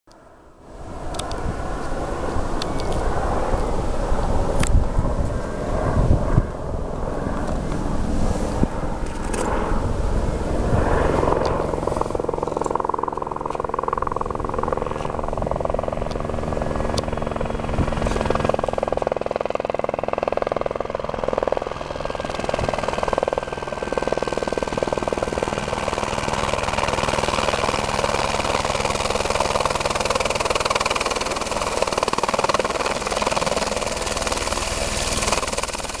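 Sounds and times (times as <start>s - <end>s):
helicopter rotor and engine: 0.1s - 36.0s.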